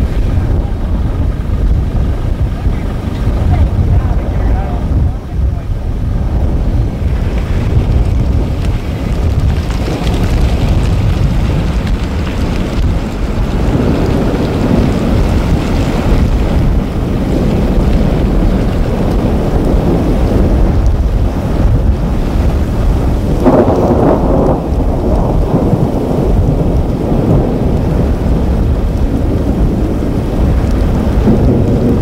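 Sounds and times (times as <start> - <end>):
thunder rumbling: 0.0 - 32.0.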